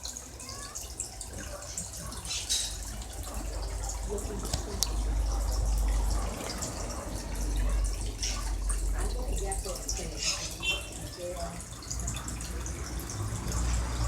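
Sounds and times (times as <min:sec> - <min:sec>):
aquarium water dripping and splashing: 0:00.0 - 0:14.0.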